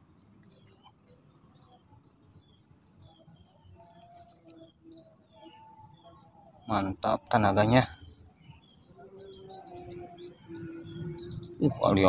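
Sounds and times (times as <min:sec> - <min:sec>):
faint bird chirps: 0:00.0 - 0:12.0
outdoor background noise: 0:00.0 - 0:12.0
thin steady high tone: 0:01.6 - 0:12.0.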